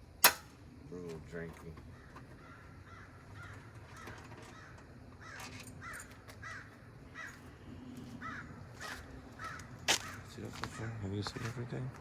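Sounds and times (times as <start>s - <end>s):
crows cawing: 1.8s - 11.6s.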